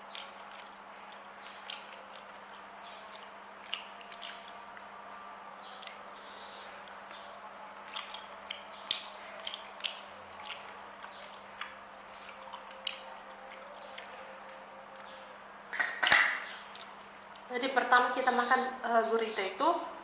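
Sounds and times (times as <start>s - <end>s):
person chewing and lip-smacking: 0.0s - 5.0s, 5.6s - 6.1s, 6.8s - 15.2s, 15.8s - 18.4s.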